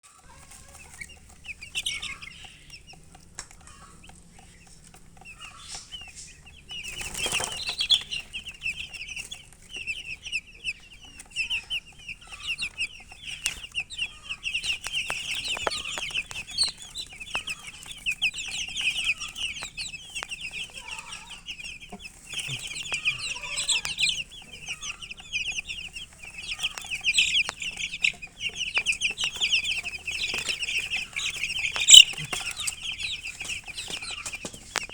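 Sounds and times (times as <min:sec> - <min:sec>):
baby chicks peeping: 0:00.0 - 0:34.9.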